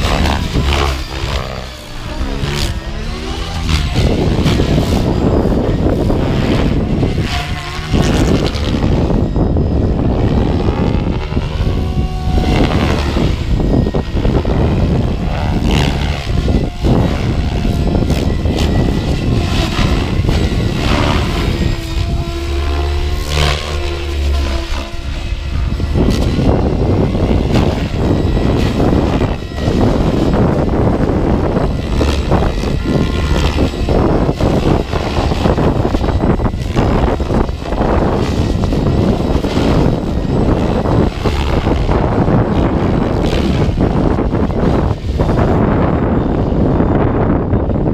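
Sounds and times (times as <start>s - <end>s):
rc helicopter rotor whine: 0.0s - 47.9s
wind buffeting microphone: 0.0s - 47.9s.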